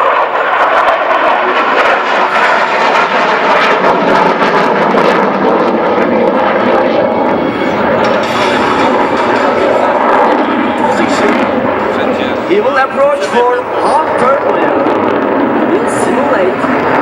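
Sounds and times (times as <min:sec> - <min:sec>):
fighter jet engine rushing: 0:00.0 - 0:17.0.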